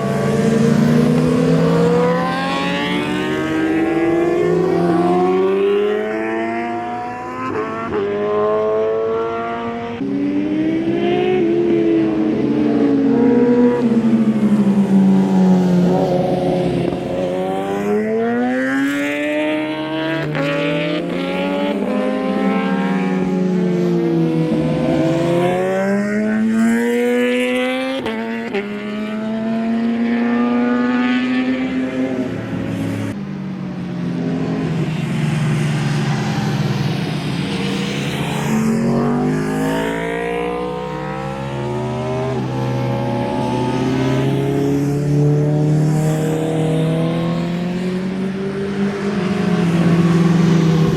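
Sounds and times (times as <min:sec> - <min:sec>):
motorcycles passing: 0:00.0 - 0:50.9.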